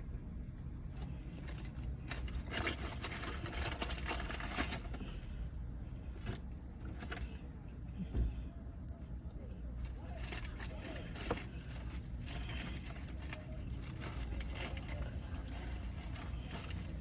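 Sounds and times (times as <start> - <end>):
crunchy chewing of fried chicken: 0.0 - 17.0
steady low hum: 0.0 - 17.0.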